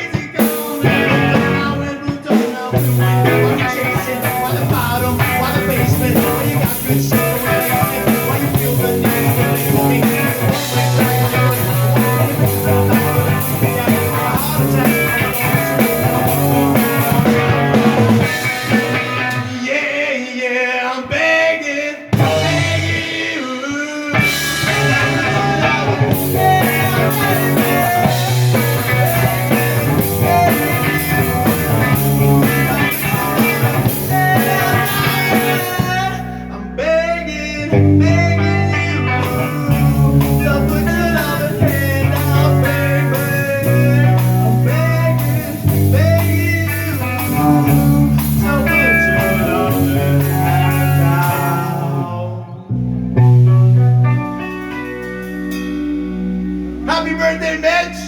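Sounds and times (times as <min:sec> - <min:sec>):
rock band playing: 0:00.0 - 0:19.9, 0:22.1 - 0:58.0
electric guitar lead: 0:00.4 - 0:19.6, 0:22.2 - 0:23.4, 0:24.1 - 0:58.0.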